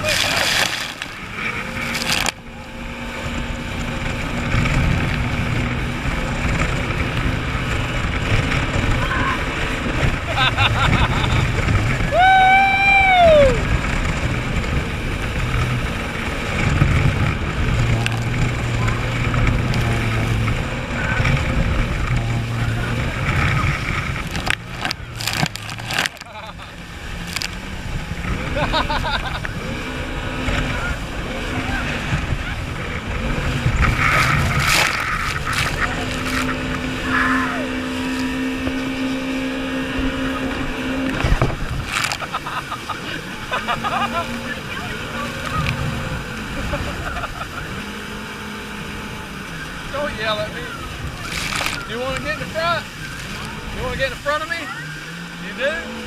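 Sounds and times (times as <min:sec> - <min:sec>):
jet ski engine running: 0:00.0 - 0:56.0
wind and water rushing: 0:00.0 - 0:56.0.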